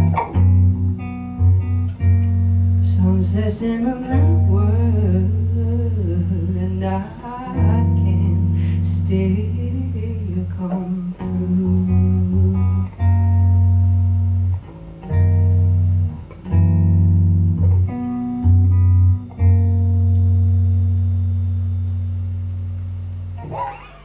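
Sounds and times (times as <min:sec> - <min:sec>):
guitar chords ringing: 0:00.0 - 0:24.0.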